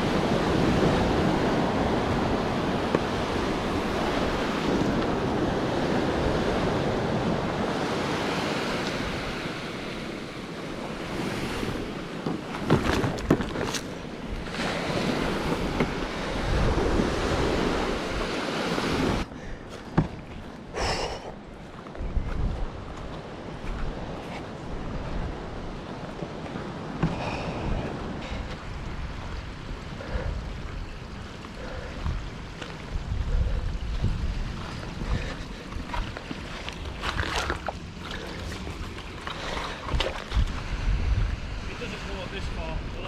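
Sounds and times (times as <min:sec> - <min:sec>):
ocean surf breaking: 0:00.0 - 0:21.4, 0:23.3 - 0:43.0
wind buffeting microphone: 0:00.0 - 0:43.0.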